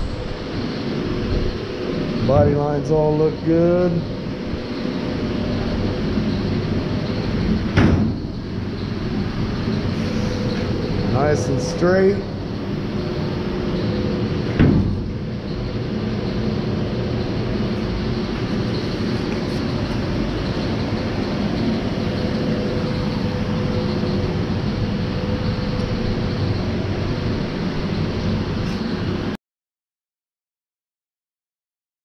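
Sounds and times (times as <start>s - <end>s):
mechanical hum and rumble: 0.0s - 29.4s.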